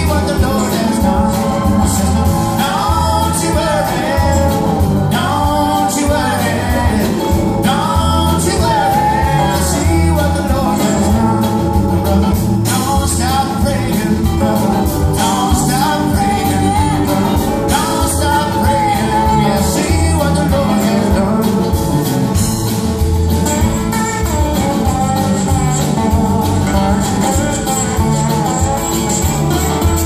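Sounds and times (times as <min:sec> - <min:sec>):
person singing: 0:00.0 - 0:22.6, 0:24.6 - 0:30.0
roots-rock band playing: 0:00.0 - 0:30.0.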